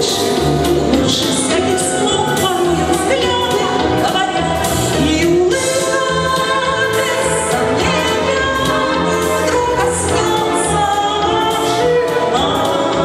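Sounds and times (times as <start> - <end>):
instrumental accompaniment with bass: 0.0 - 13.0
woman singing into microphone: 0.0 - 13.0.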